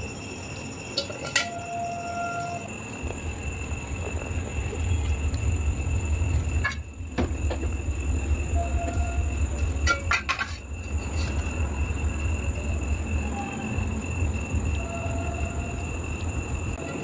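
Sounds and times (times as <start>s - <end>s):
low mechanical hum with high whine: 0.0s - 17.0s.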